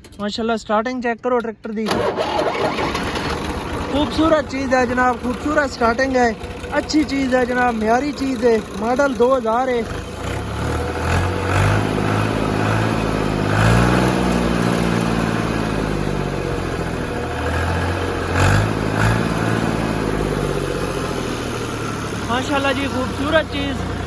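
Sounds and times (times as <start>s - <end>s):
tractor diesel engine running: 1.8s - 24.0s.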